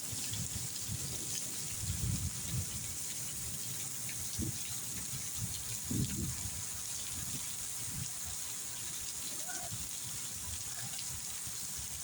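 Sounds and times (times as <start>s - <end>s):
heavy rain hissing: 0.0s - 12.0s
water gushing: 0.0s - 12.0s.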